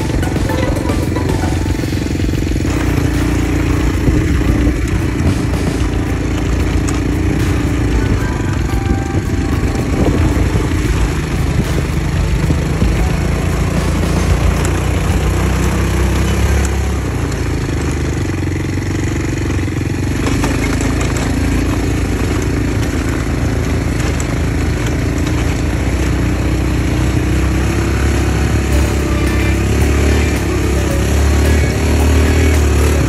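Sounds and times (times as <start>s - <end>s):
small buggy engine running: 0.0s - 33.0s.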